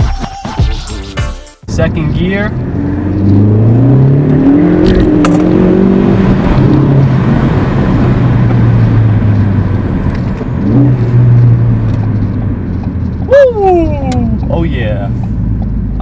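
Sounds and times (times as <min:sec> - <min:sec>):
car engine under full throttle: 0:01.7 - 0:16.0.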